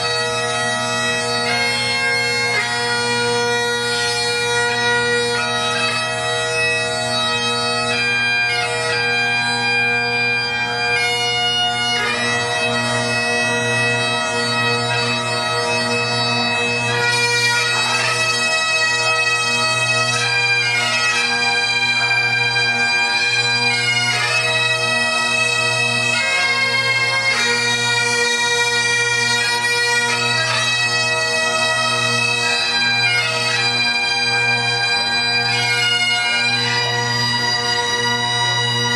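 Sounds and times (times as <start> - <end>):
bagpipes playing a tune: 0.0 - 38.9.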